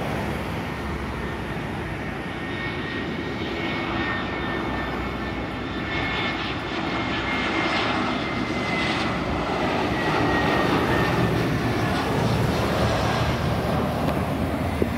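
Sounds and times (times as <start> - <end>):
jet engines overhead: 0.0 - 14.9.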